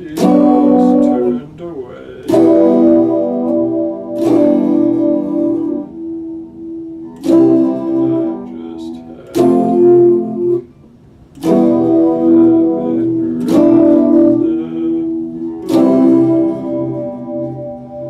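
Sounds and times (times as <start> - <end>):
electric guitar chords strummed: 0.0 - 18.0.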